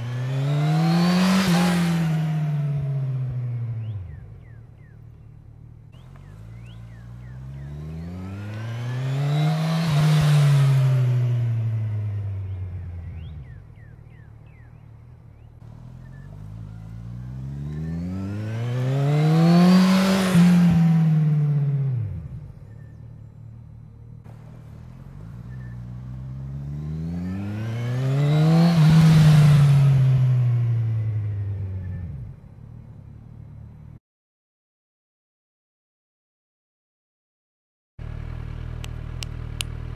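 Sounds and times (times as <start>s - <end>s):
motorcycle engine passing by: 0.0s - 5.2s, 6.0s - 34.0s.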